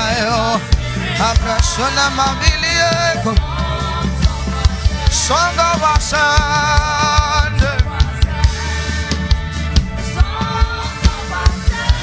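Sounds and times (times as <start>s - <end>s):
drum kit beat: 0.0s - 12.0s
gospel band playing: 0.0s - 12.0s
man singing with vibrato: 0.0s - 12.0s.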